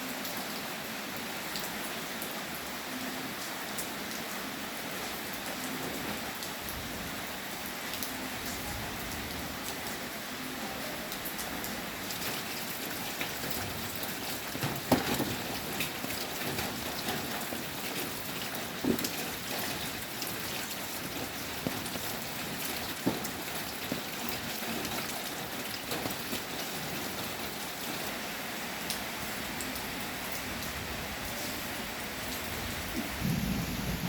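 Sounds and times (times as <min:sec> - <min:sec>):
steady rain falling: 0:00.0 - 0:34.0
loud raindrops striking nearby: 0:03.4 - 0:34.0.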